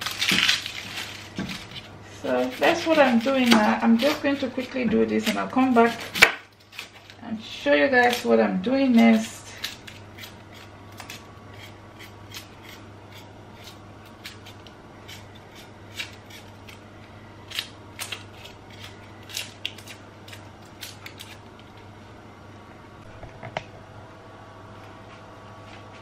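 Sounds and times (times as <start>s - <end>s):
knife scraping onion skin: 0.0s - 7.2s, 7.9s - 21.7s
steady low hum: 0.0s - 26.0s.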